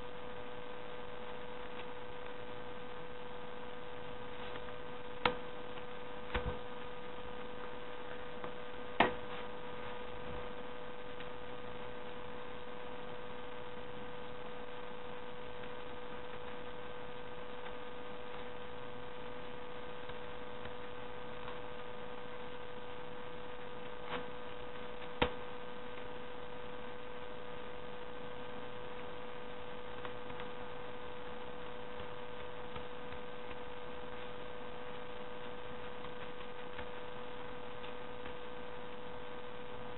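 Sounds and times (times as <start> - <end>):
electrical hum with high tone: 0.0 - 39.9.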